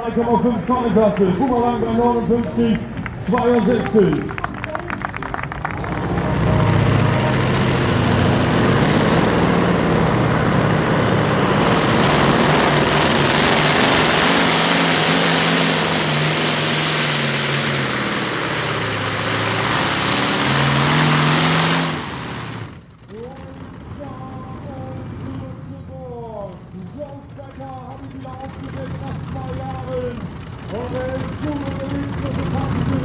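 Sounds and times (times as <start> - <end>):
heavy tractor engine under load: 0.0 - 33.0.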